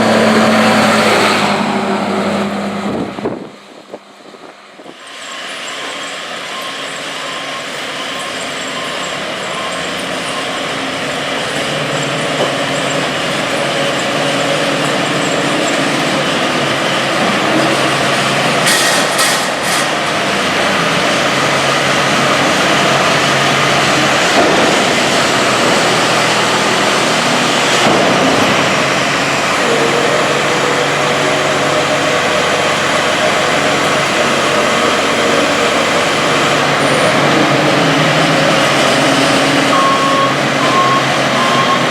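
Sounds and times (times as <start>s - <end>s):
heavy farm machine engine: 0.0s - 41.9s.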